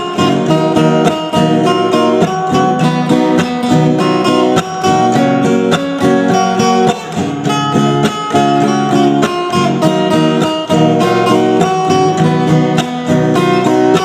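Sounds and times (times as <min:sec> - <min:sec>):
band music with strummed guitar: 0:00.0 - 0:14.0.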